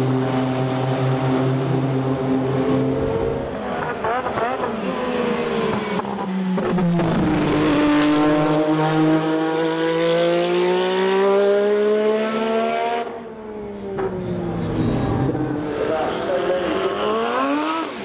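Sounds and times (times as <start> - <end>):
race car engine accelerating: 0.0 - 13.3, 14.0 - 18.0.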